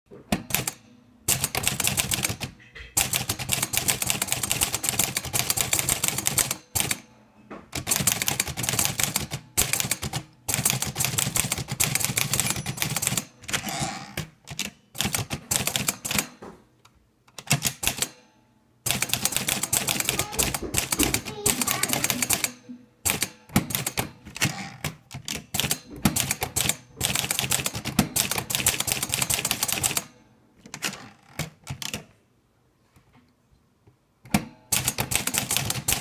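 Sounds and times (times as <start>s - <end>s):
typewriter carriage return: 0.3s - 7.1s, 7.7s - 16.4s, 17.3s - 18.2s, 18.9s - 32.1s, 34.3s - 36.0s
typewriter key strikes: 0.3s - 7.1s, 7.7s - 16.4s, 17.3s - 18.2s, 18.9s - 30.1s, 34.3s - 36.0s.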